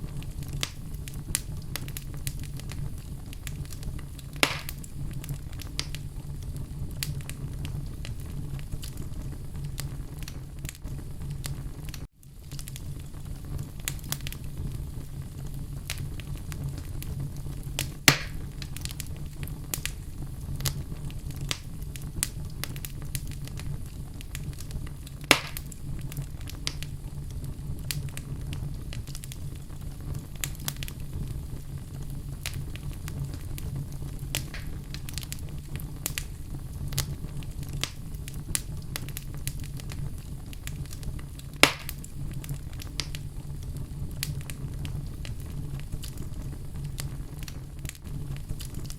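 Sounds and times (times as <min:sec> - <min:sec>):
fire crackling in fireplace: 0:00.0 - 0:48.9
fire popping loudly: 0:00.0 - 0:48.9.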